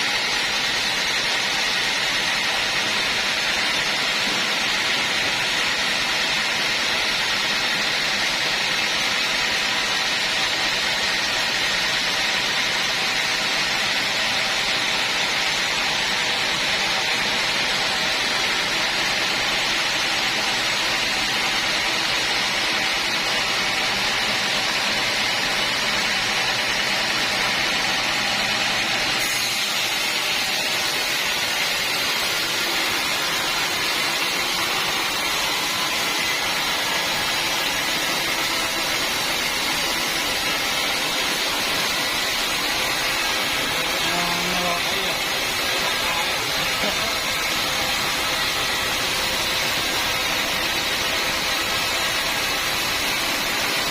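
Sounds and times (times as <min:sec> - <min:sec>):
sawmill machinery hissing rush: 0:00.0 - 0:53.9.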